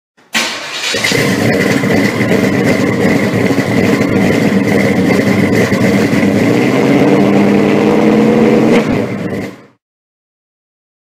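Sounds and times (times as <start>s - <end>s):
loud engine running: 0.4s - 9.8s.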